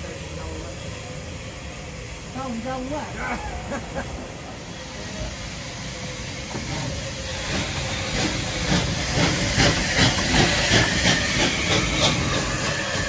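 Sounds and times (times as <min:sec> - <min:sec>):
steam hiss from cylinder drains: 0:00.0 - 0:13.0
steam locomotive exhaust chuffs: 0:00.0 - 0:13.0.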